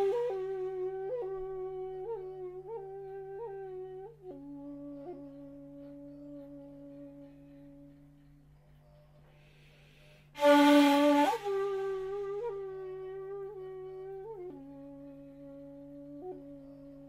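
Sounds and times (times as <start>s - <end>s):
shakuhachi flute notes: 0.0s - 17.0s.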